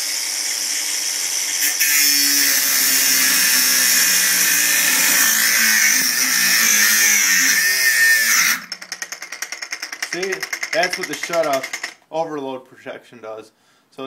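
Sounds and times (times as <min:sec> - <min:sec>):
grinder cutting steel: 0:00.0 - 0:12.0
grinder motor whine: 0:00.0 - 0:12.0.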